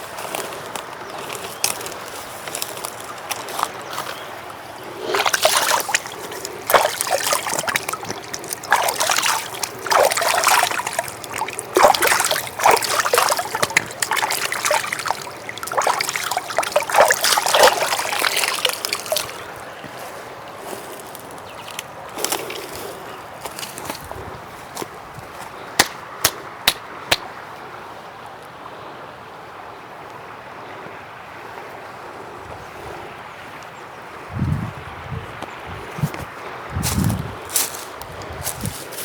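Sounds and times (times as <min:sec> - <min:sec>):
water splashing and trickling: 0:00.0 - 0:25.9, 0:33.3 - 0:39.0.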